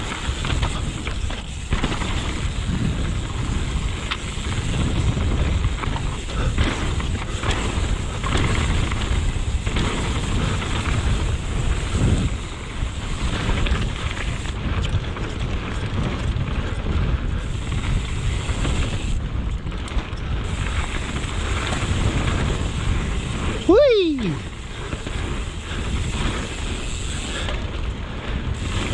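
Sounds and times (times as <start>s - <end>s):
bike rattling over bumps: 0.0s - 28.9s
bike tyres rumbling on dirt: 0.0s - 28.9s
wind buffeting microphone: 0.0s - 28.9s.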